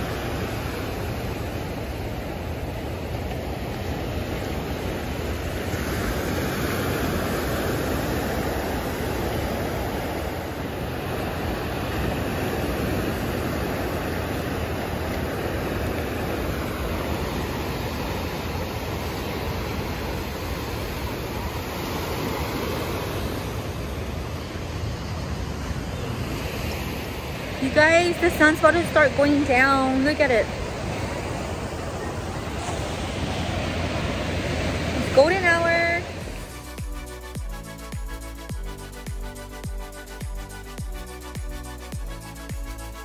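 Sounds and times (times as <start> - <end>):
ocean surf rushing: 0.0 - 43.0.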